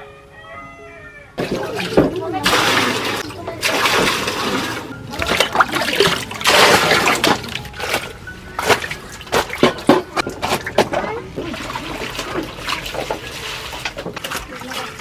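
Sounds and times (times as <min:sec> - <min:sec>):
water splashing: 0:01.4 - 0:15.0.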